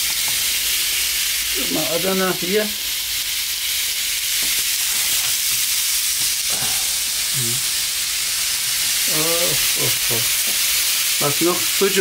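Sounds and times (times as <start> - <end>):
meat skewers sizzling on grill: 0.0 - 12.0.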